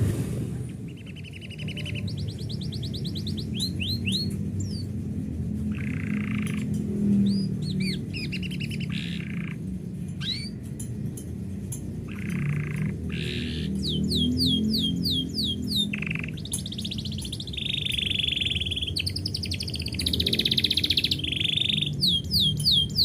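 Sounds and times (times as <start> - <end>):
low background rumble: 0.0 - 23.0
canary singing: 0.8 - 23.0.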